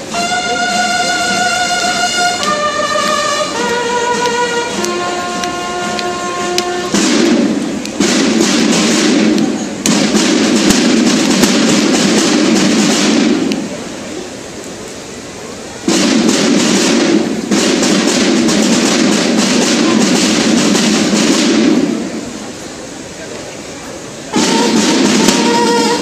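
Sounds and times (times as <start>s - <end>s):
drums playing rolls and cadences: 0.0s - 26.0s.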